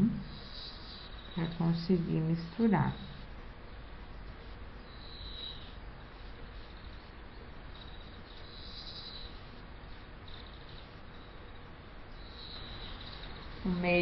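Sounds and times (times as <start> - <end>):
faint background hiss: 0.0 - 14.0
high insect-like trills: 0.2 - 14.0.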